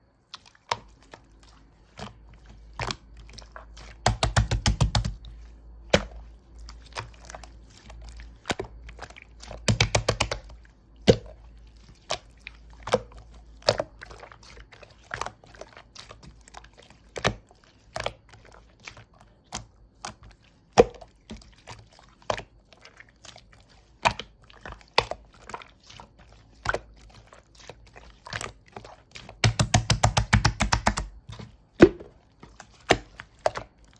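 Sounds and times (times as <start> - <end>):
slime squished by hand: 0.2 - 33.9.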